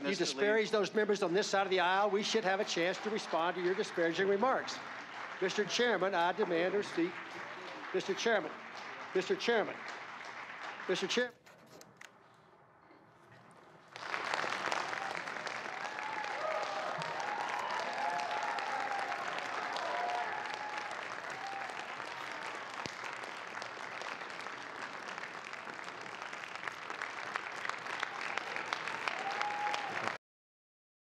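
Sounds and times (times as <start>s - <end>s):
audience applauding: 1.3s - 11.4s, 13.8s - 30.2s.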